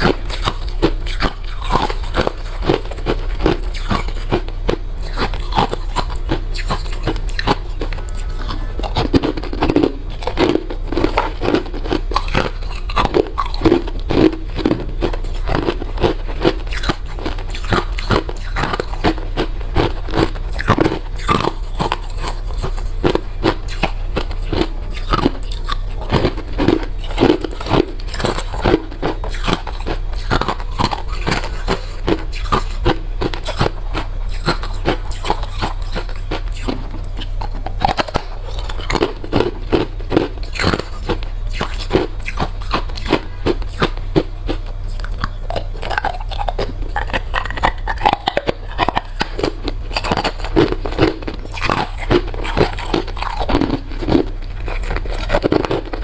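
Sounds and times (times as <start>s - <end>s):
crushed ice being chewed: 0.0s - 56.0s.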